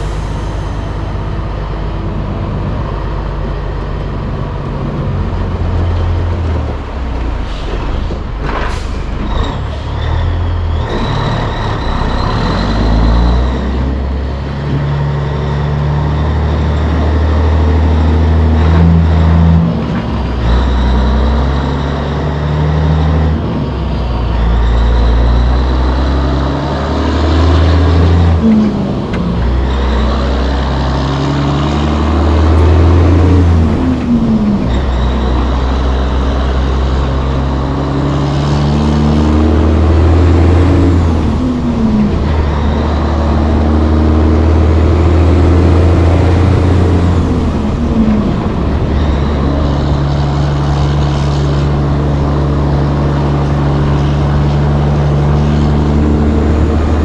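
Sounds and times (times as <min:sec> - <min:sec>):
truck diesel engine revving: 0:00.0 - 0:57.0.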